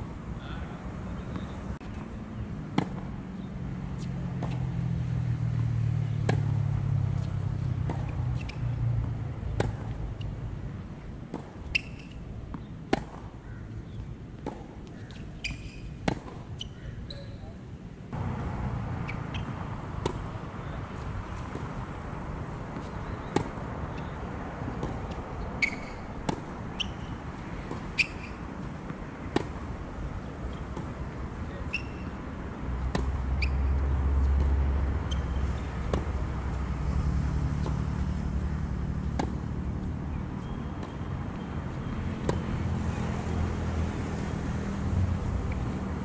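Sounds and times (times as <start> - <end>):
tennis balls struck and bouncing: 1.2 - 16.8, 18.1 - 46.0.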